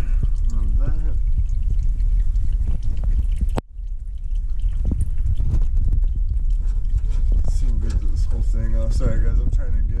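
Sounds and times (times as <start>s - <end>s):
fluid dripping: 0.0s - 10.0s
steady low rumble: 0.0s - 10.0s.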